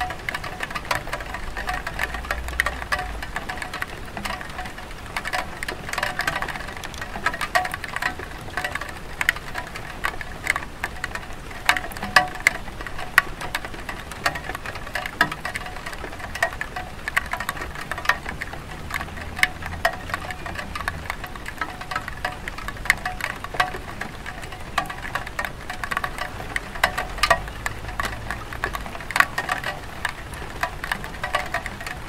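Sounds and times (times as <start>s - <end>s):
light rain hiss on roof: 0.0s - 32.0s
raindrops tapping and dripping: 0.0s - 32.0s.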